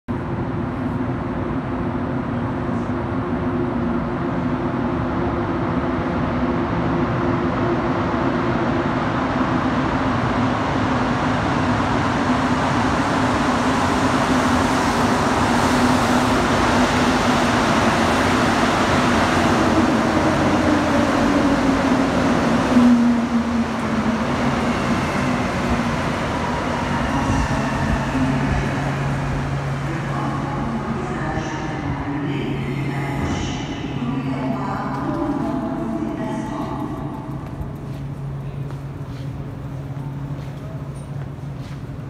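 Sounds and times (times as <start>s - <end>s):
train pulling into station: 0.1s - 42.0s.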